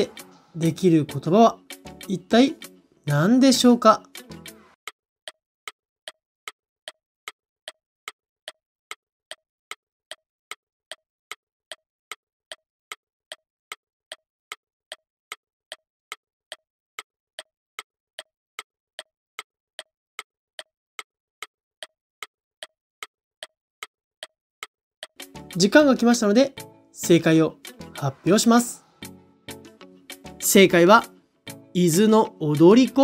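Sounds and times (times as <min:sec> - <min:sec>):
clock ticking countdown timer: 0:00.0 - 0:33.0.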